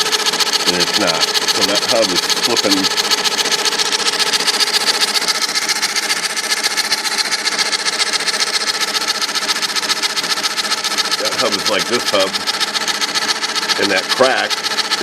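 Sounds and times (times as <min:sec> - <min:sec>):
typewriter motor humming and rattling: 0:00.0 - 0:15.0.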